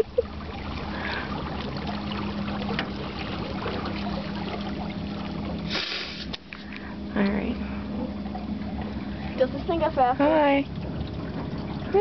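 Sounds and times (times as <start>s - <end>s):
small boat motor running: 0.0s - 12.0s
water lapping against hull: 0.0s - 12.0s.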